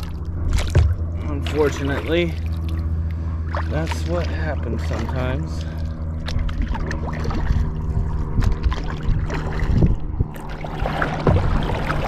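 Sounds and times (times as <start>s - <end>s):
paddle splashing water: 0.0s - 12.0s
steady low rumble: 0.0s - 12.0s
water lapping against hull: 0.0s - 12.0s.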